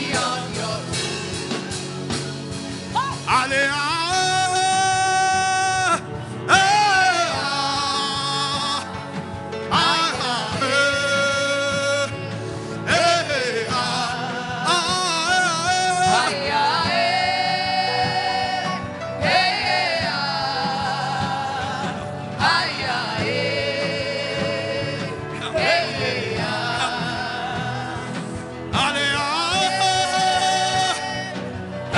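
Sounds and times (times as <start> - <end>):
instrumental accompaniment: 0.0 - 31.9.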